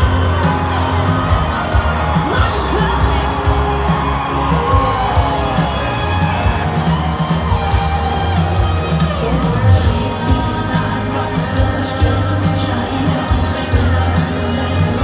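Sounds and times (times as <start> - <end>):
crowd whooping and cheering: 0.0 - 15.0
live country band playing: 0.0 - 15.0.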